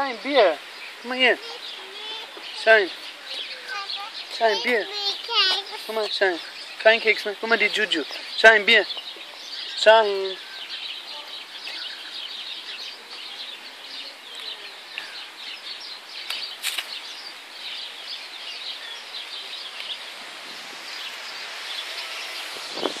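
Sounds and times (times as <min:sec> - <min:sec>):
small birds twittering: 0:00.0 - 0:23.0.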